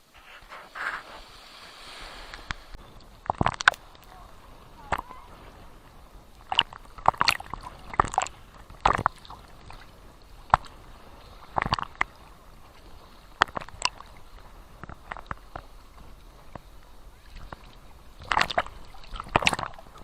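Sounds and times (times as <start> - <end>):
small waves lapping at shore: 0.0 - 20.0
water splashes and slaps: 0.2 - 20.0.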